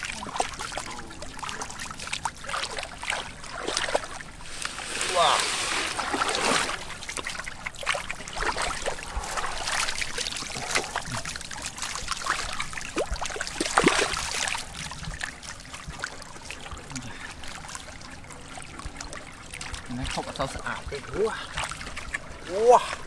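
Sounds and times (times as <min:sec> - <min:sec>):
swamp water splashing: 0:00.0 - 0:23.0.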